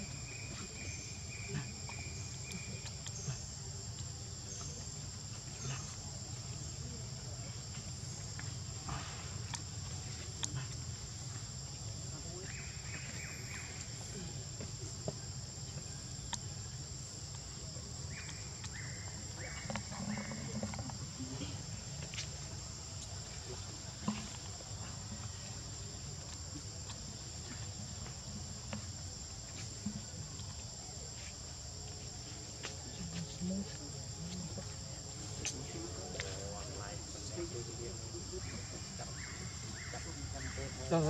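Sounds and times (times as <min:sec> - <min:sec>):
insect chorus drone: 0:00.0 - 0:41.0.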